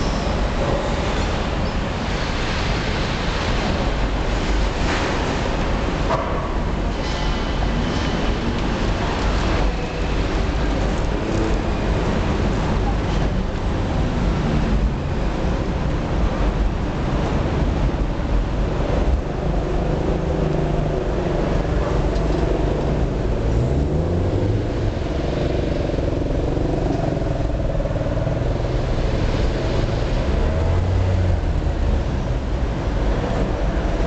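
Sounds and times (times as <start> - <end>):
traffic rumble: 0.0 - 34.0.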